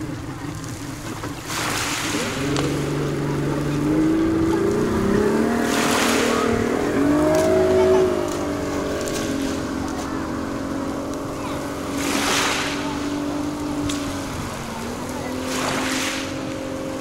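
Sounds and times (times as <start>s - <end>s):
outboard motor revving: 0.0s - 17.0s
waves washing on pebble shore: 0.0s - 17.0s.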